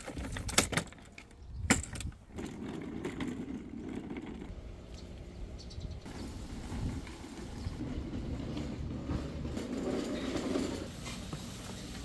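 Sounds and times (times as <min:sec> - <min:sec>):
small wheels rolling on concrete: 0:00.0 - 0:05.4, 0:06.0 - 0:12.0.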